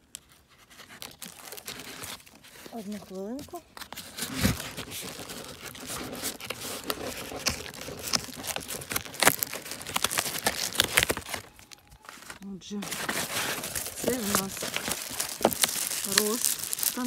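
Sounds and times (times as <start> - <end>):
cardboard box rustling and crackling: 0.0 - 17.0.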